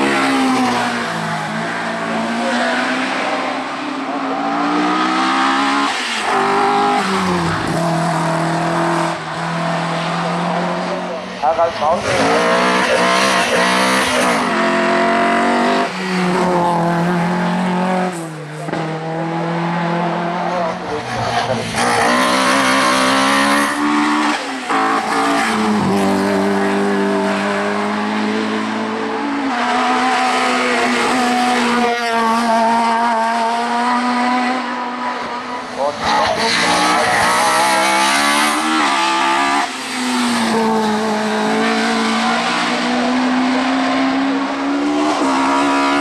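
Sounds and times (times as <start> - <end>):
racing car engines revving high: 0.0 - 46.0.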